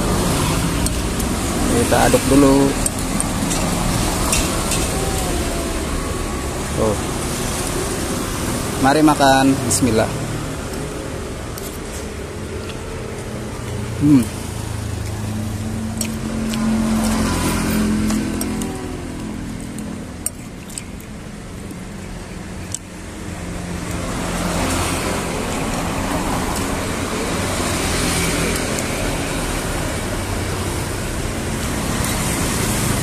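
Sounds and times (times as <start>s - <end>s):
passing traffic rush: 0.0s - 33.0s.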